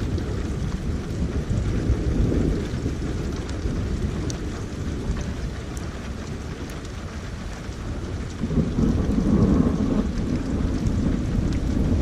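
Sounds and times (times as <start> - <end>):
raindrop ticks: 0.0 - 12.0
rolling thunder rumble: 0.0 - 12.0
steady rain: 0.0 - 12.0.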